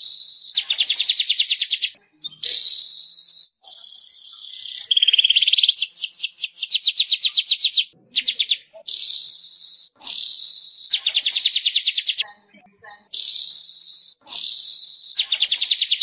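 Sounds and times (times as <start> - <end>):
bird singing buzzes and trills: 0.0 - 12.2, 13.1 - 16.0.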